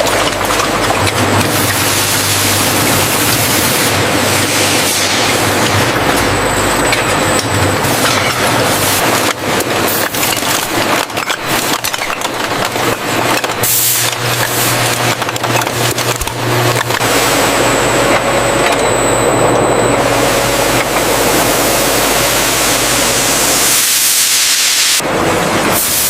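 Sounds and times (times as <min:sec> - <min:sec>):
machine low hum: 0:00.0 - 0:24.1
factory machinery clattering: 0:00.0 - 0:26.0.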